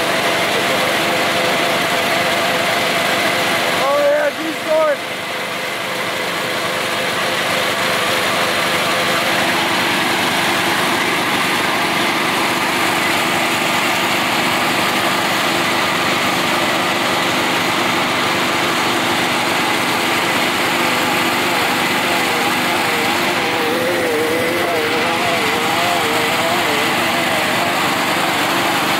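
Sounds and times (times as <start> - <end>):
lawn mower engine running: 0.0 - 28.9
spinning tires hissing: 0.0 - 28.9.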